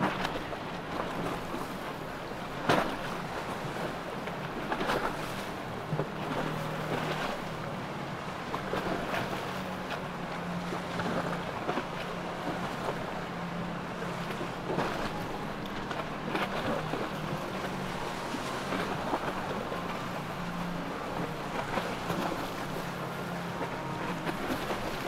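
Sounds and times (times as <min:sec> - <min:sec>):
boat motors droning: 0:00.0 - 0:25.0
water splashing: 0:00.0 - 0:25.0.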